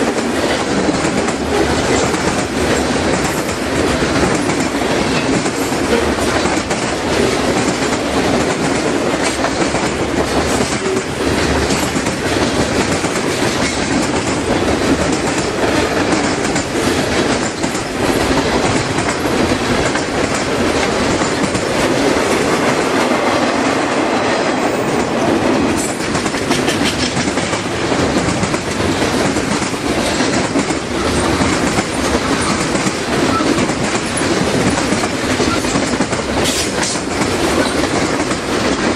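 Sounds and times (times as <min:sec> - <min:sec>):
freight train wheels rumbling: 0:00.0 - 0:38.9
wheels clickety-clack: 0:00.0 - 0:38.9.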